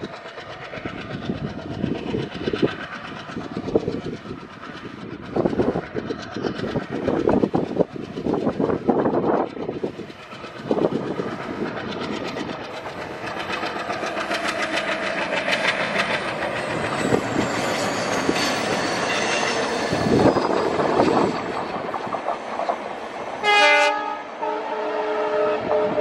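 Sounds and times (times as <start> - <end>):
diesel locomotive engine chugging: 0.0 - 26.0.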